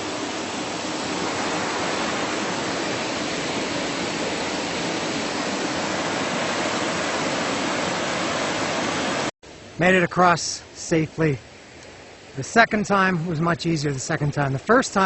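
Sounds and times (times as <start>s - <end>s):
fast creek rushing: 0.0s - 15.0s.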